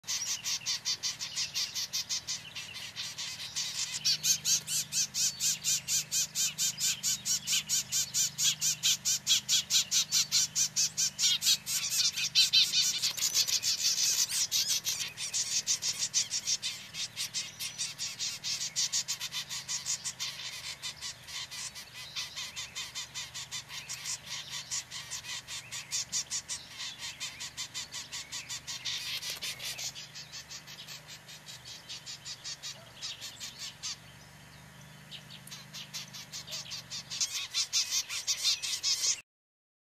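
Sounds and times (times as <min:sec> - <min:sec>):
rapid pulsing animal calls: 0:00.0 - 0:39.2.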